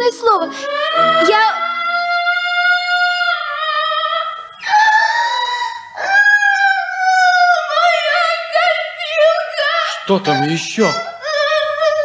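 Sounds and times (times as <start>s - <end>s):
child wailing: 0.3s - 12.0s.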